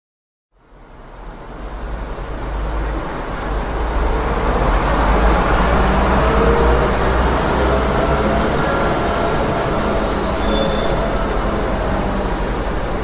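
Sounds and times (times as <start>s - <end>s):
city street traffic: 0.6s - 13.0s.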